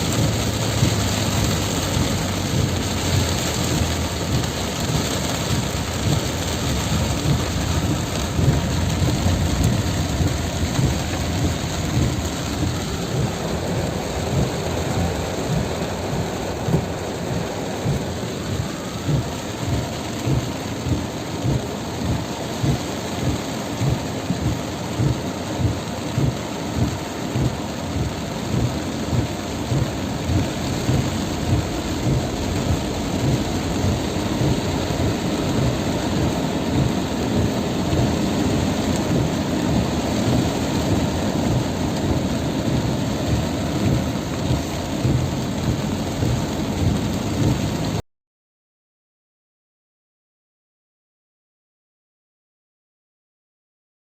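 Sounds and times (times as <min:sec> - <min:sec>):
regular low thumps: 0:00.0 - 0:47.9
deep rumble: 0:00.0 - 0:48.0
heavy rain pouring: 0:00.0 - 0:48.0.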